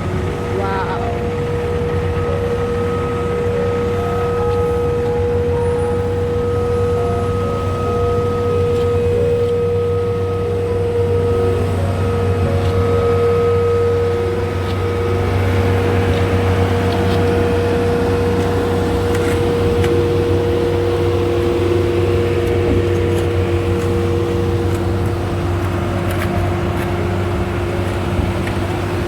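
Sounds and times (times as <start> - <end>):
diesel engine drone: 0.0 - 29.0
lower machinery whine: 0.0 - 29.0
machinery whine: 0.0 - 29.0.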